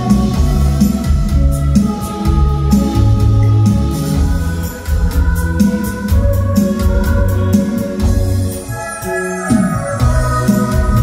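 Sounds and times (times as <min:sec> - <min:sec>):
electronic keyboard organ chords: 0:00.0 - 0:11.0.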